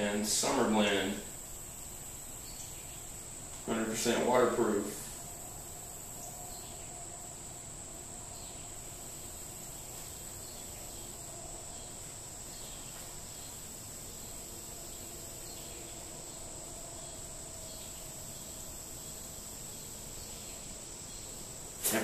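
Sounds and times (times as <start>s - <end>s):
even hiss: 0.0s - 22.0s
high-pitched whine: 0.0s - 22.0s.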